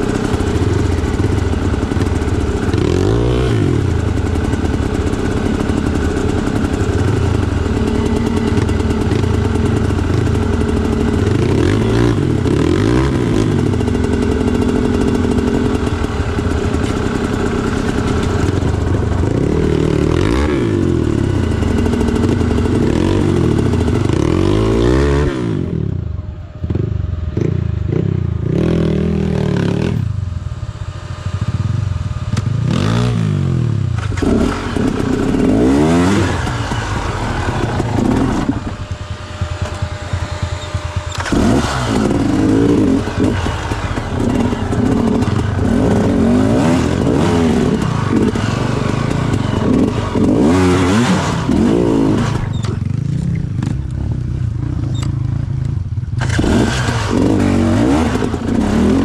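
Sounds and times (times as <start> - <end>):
clatter: 0.0 - 25.8, 31.4 - 59.0
motorcycle engine revving: 0.0 - 59.0.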